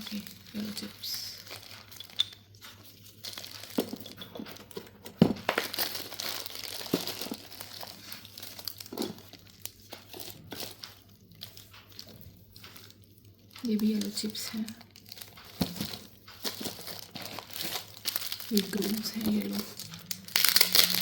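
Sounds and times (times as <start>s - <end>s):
plastic packets crinkling: 0.0s - 21.0s.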